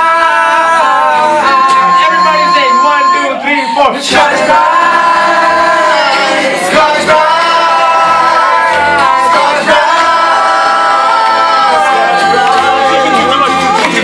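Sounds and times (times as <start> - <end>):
group singing long notes: 0.0 - 3.1, 4.0 - 14.0.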